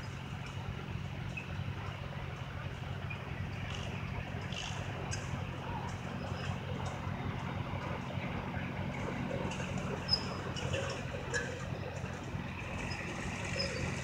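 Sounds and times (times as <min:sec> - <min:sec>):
distant tractor engine running: 0:00.0 - 0:14.0.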